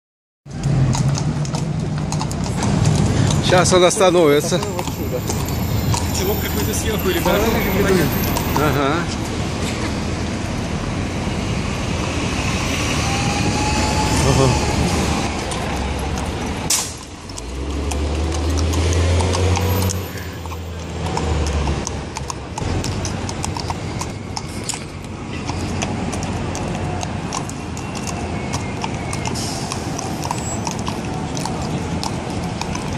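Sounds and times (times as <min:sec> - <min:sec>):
hooves clip-clopping on concrete: 0:00.5 - 0:10.3, 0:15.2 - 0:32.9.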